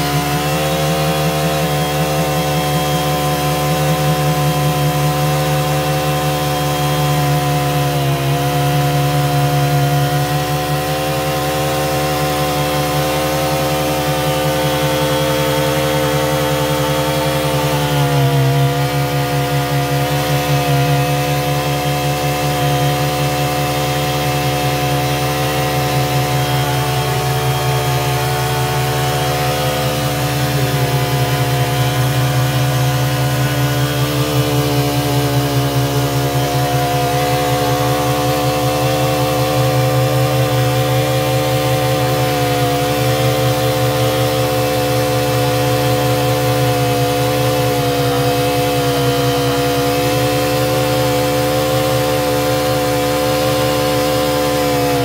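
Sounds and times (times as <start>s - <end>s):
drilling rig engine running: 0.0s - 55.0s.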